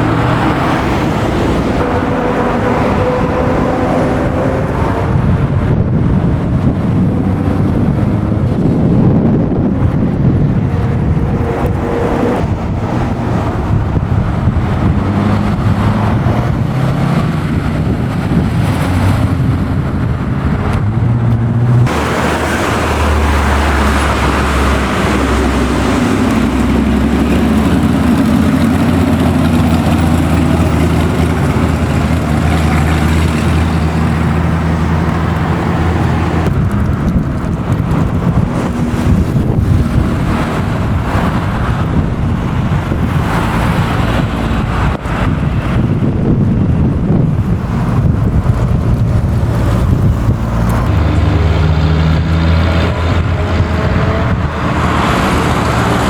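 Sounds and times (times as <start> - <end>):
car engines running loudly: 0.0 - 56.0.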